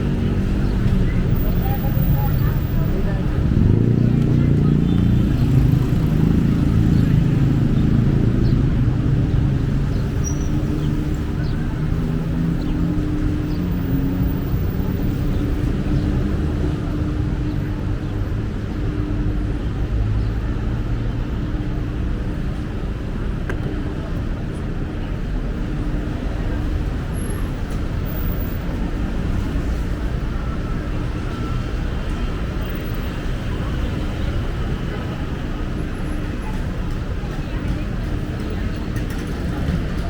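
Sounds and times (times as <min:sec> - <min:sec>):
vehicle engines running: 0:00.0 - 0:40.0.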